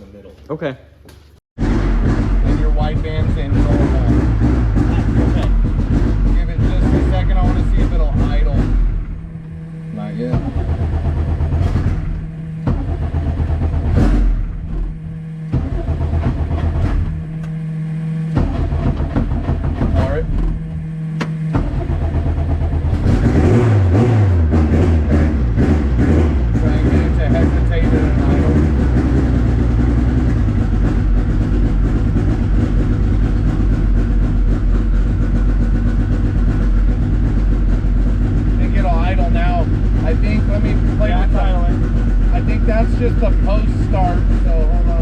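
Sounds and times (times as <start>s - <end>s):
car engine running unevenly: 1.6s - 45.0s.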